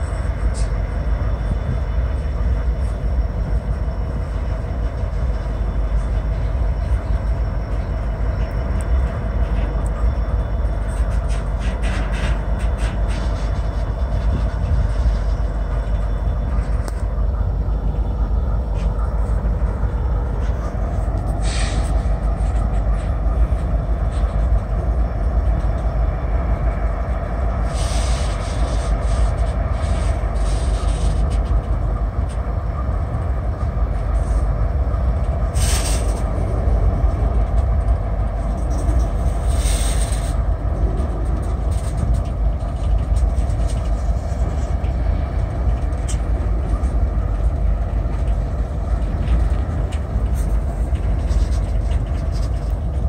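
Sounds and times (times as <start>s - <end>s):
freight train rumbling: 0.0s - 53.0s.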